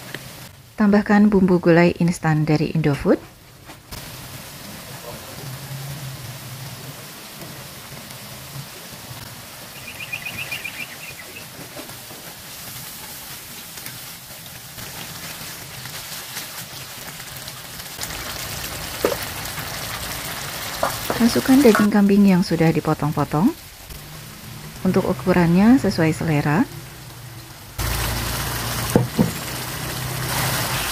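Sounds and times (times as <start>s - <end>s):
paste sizzling in a wok: 3.9s - 30.9s.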